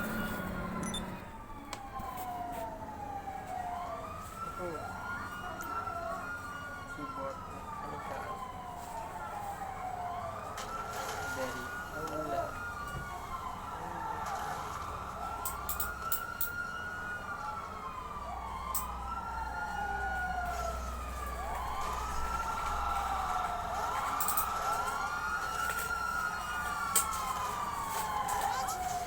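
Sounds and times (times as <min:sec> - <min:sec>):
wailing siren: 0:00.0 - 0:29.0.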